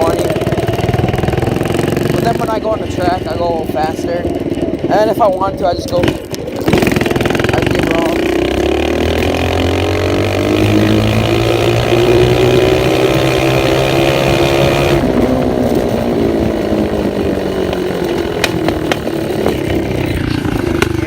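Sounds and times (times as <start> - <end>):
dirt bike engine revving loud: 0.0 - 21.0.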